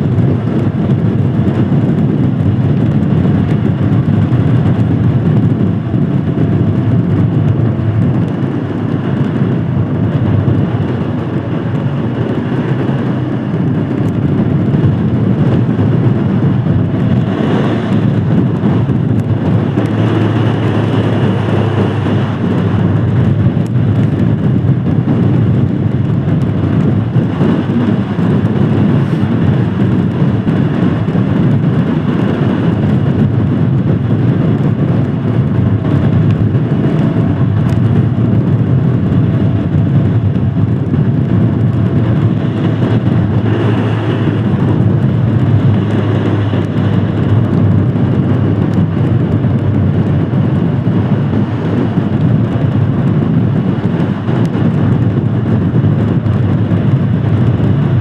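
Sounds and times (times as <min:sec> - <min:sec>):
constant rushing noise: 0:00.0 - 0:58.0
motorcycle engine running: 0:00.0 - 0:58.0.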